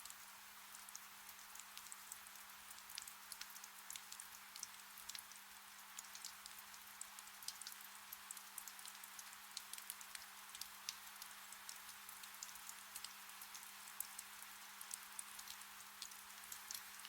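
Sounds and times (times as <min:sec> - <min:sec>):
gentle rain hiss: 0:00.0 - 0:17.0
raindrops ticking: 0:00.8 - 0:05.4, 0:06.0 - 0:17.0.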